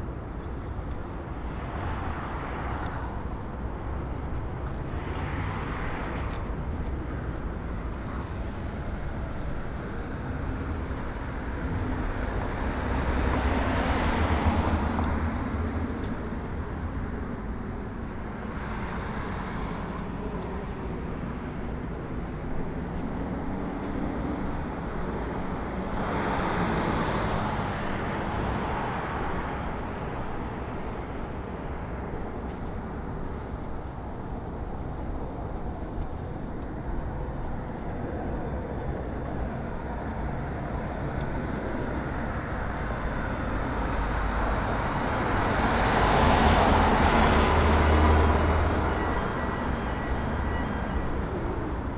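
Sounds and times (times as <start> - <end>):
steady traffic hum: 0.0 - 51.9.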